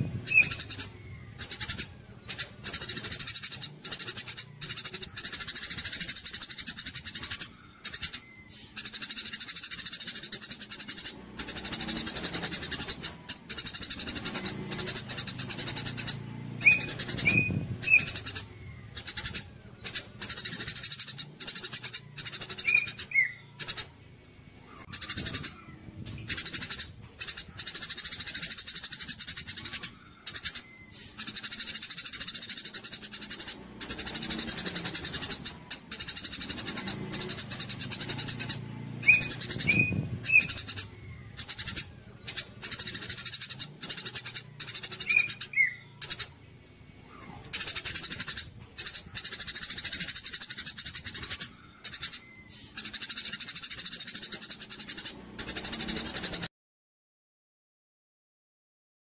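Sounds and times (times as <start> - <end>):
lower bird chirps: 0.0 - 56.5
songbird high-pitched trills: 0.0 - 56.5.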